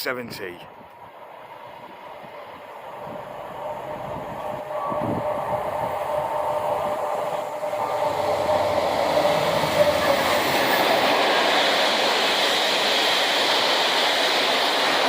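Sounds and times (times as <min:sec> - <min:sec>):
freight locomotive engine: 0:00.0 - 0:15.0
train wheels on rails: 0:00.0 - 0:15.0
steady hum: 0:01.0 - 0:15.0.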